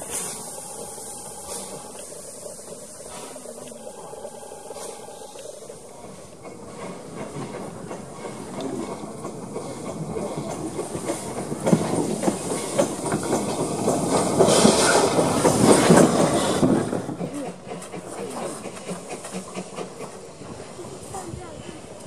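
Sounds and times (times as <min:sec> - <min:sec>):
steam hissing: 0:00.0 - 0:22.0
steam locomotive running: 0:00.0 - 0:22.0
wheels clicking over rail joints: 0:00.0 - 0:22.0.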